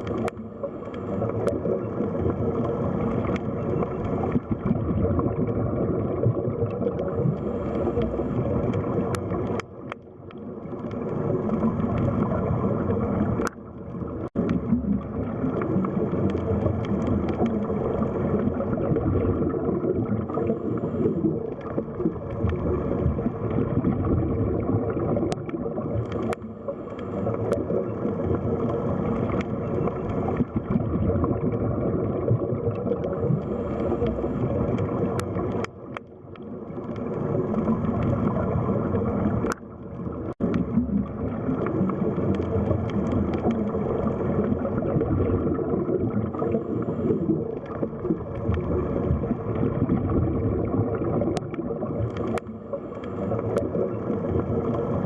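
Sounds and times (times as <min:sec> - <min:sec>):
faint underwater clicks: 0:00.0 - 0:55.0
muffled underwater gurgling: 0:00.0 - 0:55.0.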